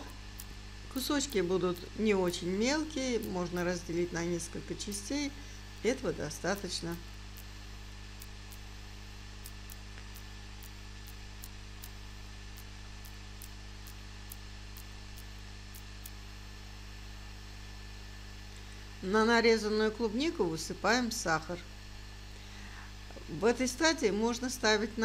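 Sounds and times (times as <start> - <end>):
electrical hum and hiss: 0.0 - 25.0.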